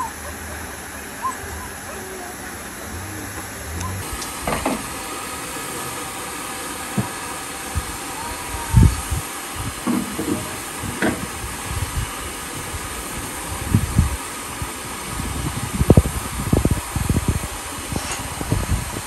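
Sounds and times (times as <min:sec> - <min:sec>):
train hiss and rumble: 0:00.0 - 0:19.0.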